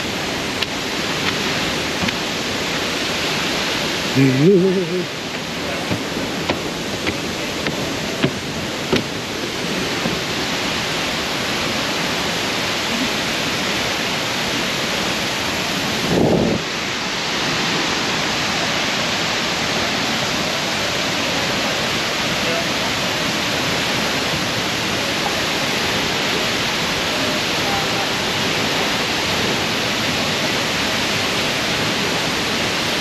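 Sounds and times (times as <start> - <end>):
waterfall roaring: 0.0 - 33.0.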